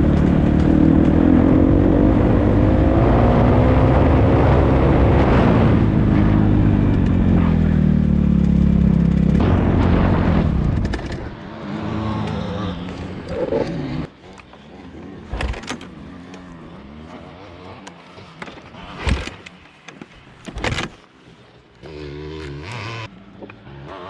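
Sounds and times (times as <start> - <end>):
dirt bike engine revving: 0.0 - 19.4, 21.8 - 24.0.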